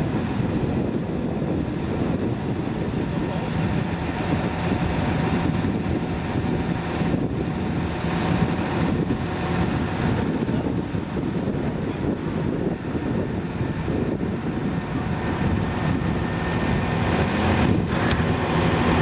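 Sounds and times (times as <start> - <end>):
crane truck engine running: 0.0 - 19.0
wind on microphone: 0.0 - 19.0.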